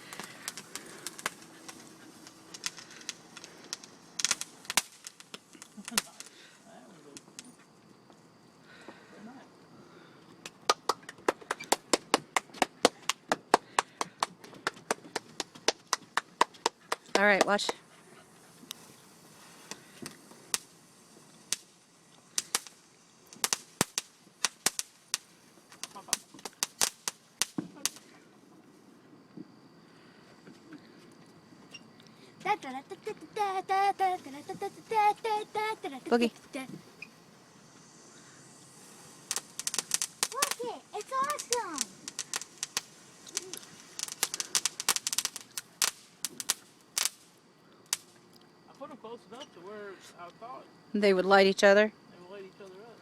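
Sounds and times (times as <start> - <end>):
fireworks crackling and popping: 0.0 - 53.0.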